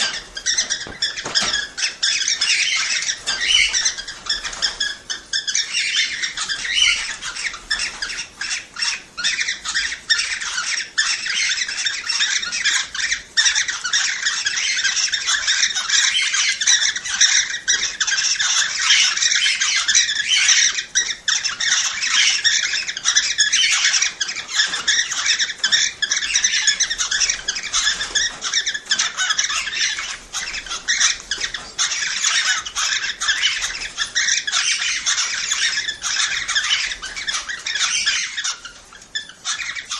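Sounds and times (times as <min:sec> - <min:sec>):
cockatiels chirping and squawking: 0:00.0 - 0:39.9.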